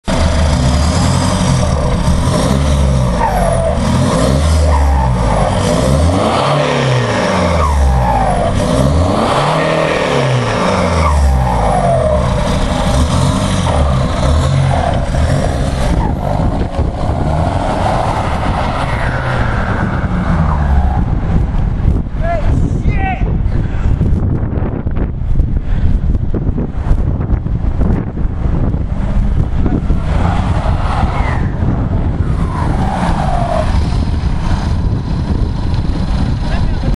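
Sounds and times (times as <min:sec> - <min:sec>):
diesel engine revving: 0:00.0 - 0:22.2, 0:26.7 - 0:36.9.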